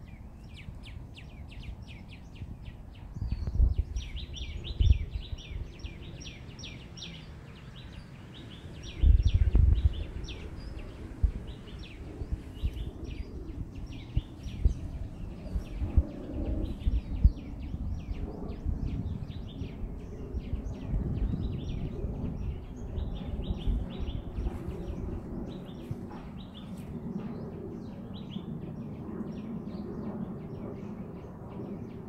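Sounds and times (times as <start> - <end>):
birds chirping: 0.0 - 32.0
steady low rumble: 0.0 - 32.0.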